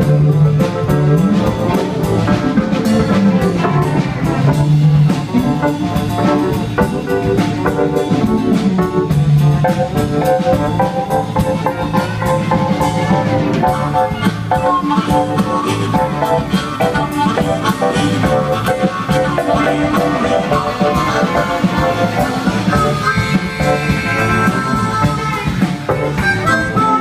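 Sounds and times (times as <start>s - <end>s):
drum kit beat: 0.0s - 27.0s
electric bass: 0.0s - 27.0s
guitars: 0.0s - 27.0s
pedal steel guitar: 0.0s - 27.0s.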